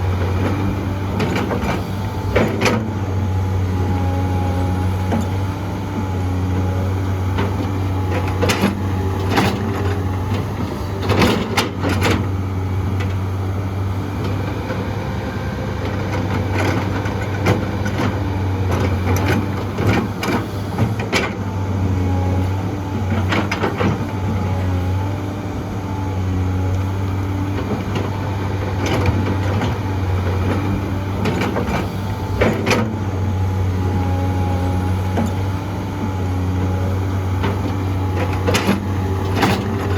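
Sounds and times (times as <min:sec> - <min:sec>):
diesel excavator engine droning: 0:00.0 - 0:39.9.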